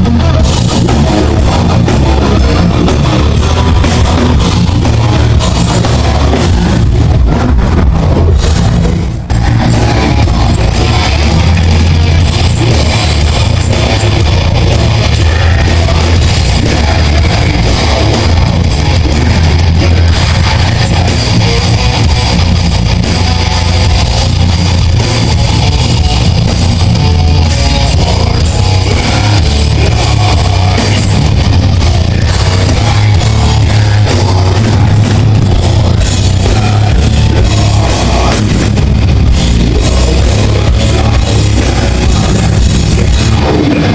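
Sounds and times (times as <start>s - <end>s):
heavy metal band playing live: 0.0s - 43.9s.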